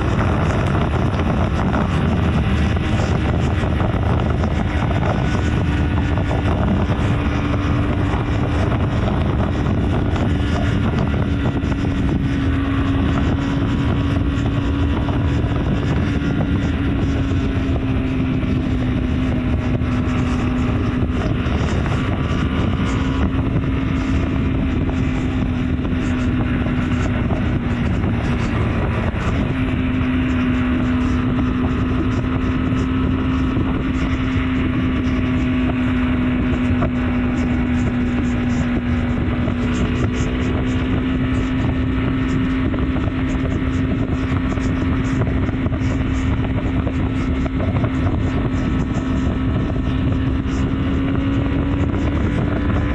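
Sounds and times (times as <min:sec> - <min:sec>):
motorcycle engine running steadily: 0:00.0 - 0:52.9
wind rushing on microphone: 0:00.0 - 0:52.9.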